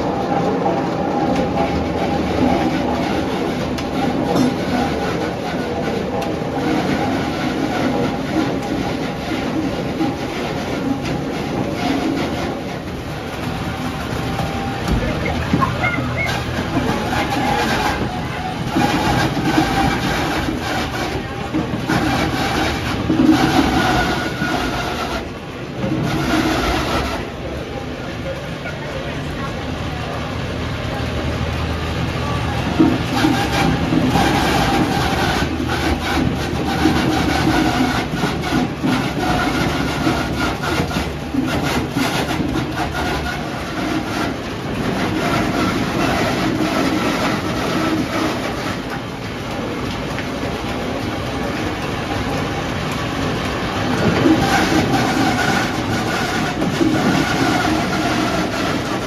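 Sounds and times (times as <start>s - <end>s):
mill machinery rumbling and clattering: 0.0s - 59.0s.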